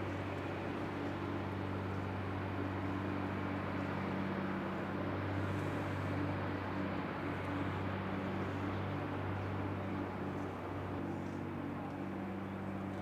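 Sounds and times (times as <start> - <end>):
constant noisy wash: 0.0 - 13.0
low mechanical hum: 0.0 - 13.0.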